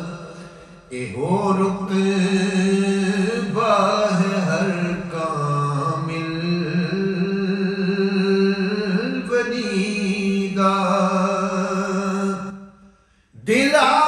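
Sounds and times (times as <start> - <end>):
man chanting melodic poem: 0.0 - 12.6, 13.4 - 14.0.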